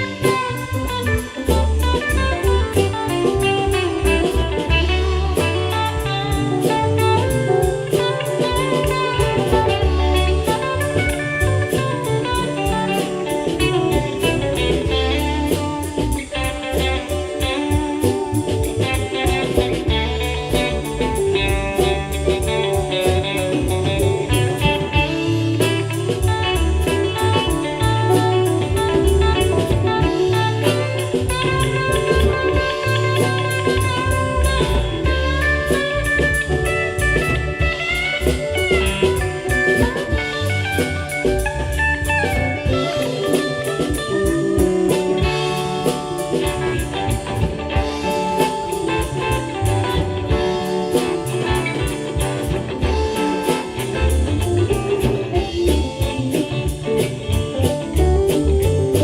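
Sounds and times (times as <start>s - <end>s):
bass guitar: 0.0s - 59.0s
drum kit: 0.0s - 59.0s
electric lead guitar: 0.0s - 59.0s.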